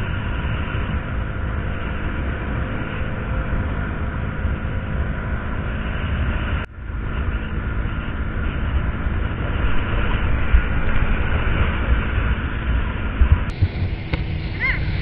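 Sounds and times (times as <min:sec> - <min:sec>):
motorcycle engine running: 0:00.0 - 0:15.0
wind rush and road noise: 0:00.0 - 0:15.0.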